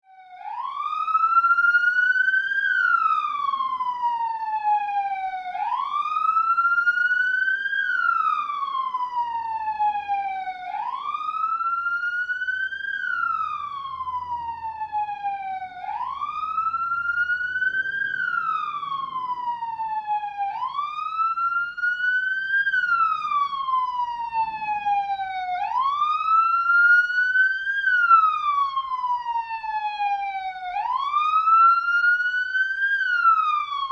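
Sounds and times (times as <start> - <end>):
police siren wailing: 0.0 - 33.9.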